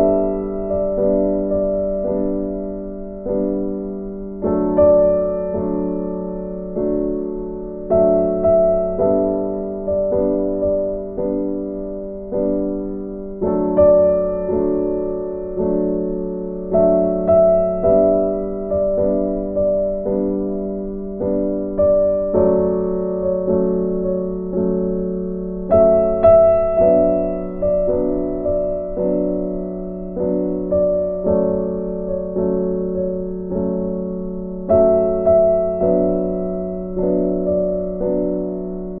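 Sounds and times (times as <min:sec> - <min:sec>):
slow gentle piano melody: 0:00.0 - 0:39.0.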